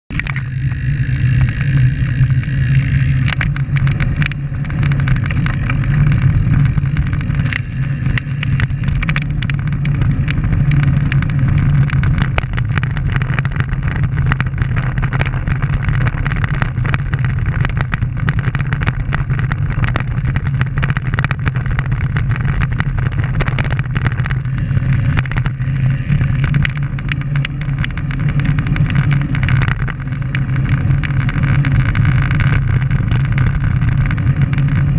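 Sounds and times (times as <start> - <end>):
bike tyres rolling on asphalt: 0.1 - 34.9
small rattles and knocks: 0.1 - 34.9
wind on microphone: 0.1 - 34.9.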